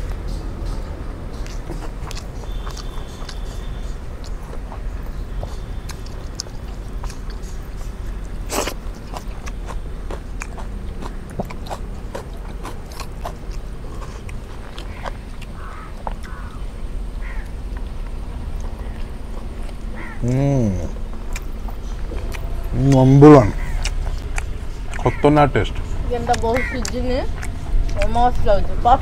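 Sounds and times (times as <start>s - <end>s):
people chewing food: 0.0s - 29.0s.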